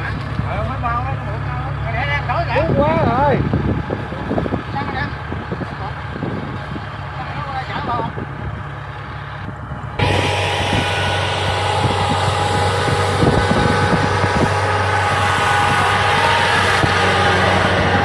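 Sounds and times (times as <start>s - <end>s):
harvester engine running: 0.0s - 18.0s.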